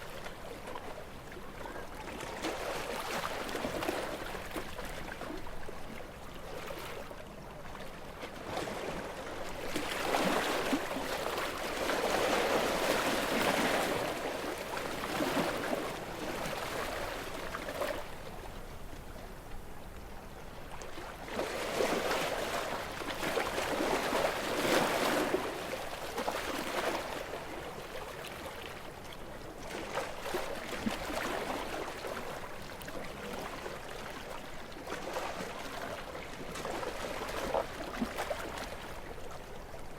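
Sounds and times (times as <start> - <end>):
gentle waves washing onto beach: 0.0 - 39.9.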